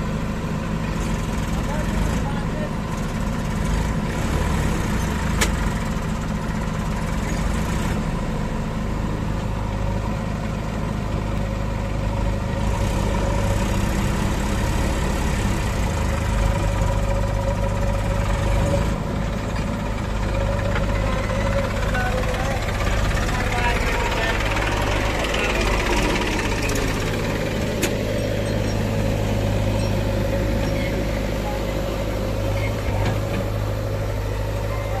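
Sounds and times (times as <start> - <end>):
diesel engines running: 0.0 - 35.0.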